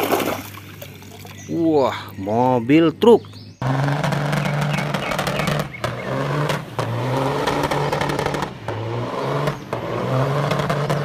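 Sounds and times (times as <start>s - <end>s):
diesel truck engine revving: 0.6s - 11.0s.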